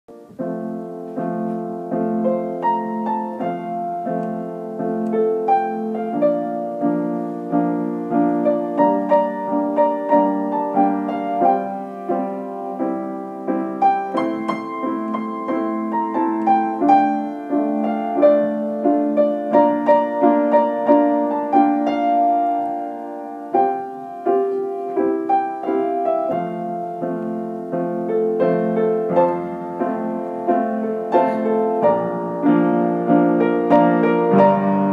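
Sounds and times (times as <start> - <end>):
solo piano playing: 0.0 - 34.9.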